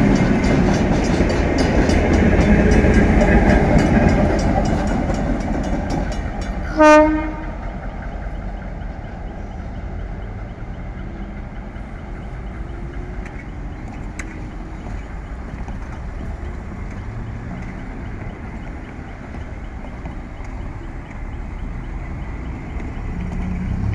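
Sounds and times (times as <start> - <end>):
car wheels clicking over rails: 0.0 - 6.8, 10.4 - 23.9
cars driving over crossing: 0.0 - 23.9.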